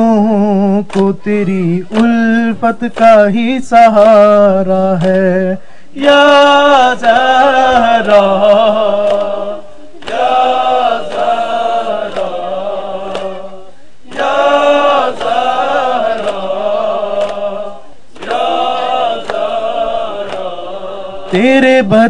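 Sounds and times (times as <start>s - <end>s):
men chanting: 0.0s - 22.0s.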